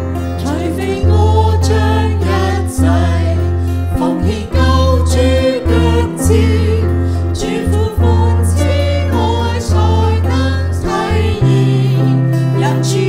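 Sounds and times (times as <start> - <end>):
hymn singing: 0.0 - 13.0
instrumental accompaniment: 0.0 - 13.0.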